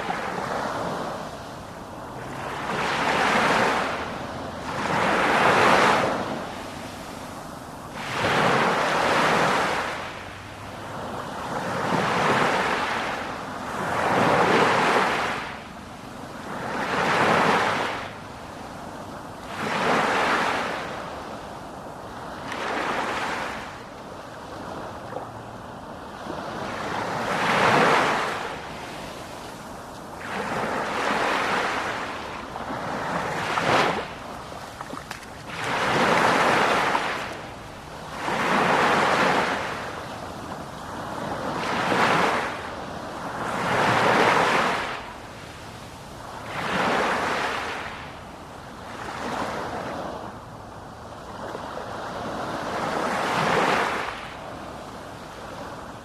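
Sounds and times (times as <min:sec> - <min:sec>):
waves washing in: 0:00.0 - 0:56.0.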